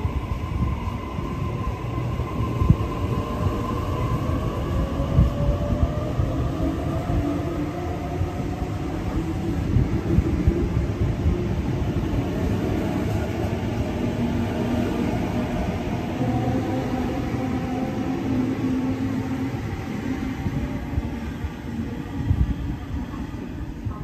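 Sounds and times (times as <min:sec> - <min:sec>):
faint train hum: 0:00.0 - 0:24.0
train wheels rumbling on rail: 0:00.0 - 0:24.0.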